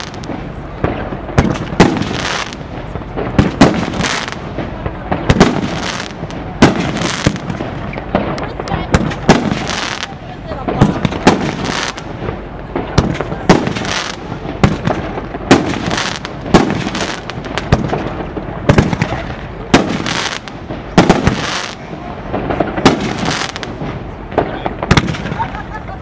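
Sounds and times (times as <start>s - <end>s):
firework shells bursting: 0.0s - 25.6s
crackling firework stars: 0.0s - 26.0s.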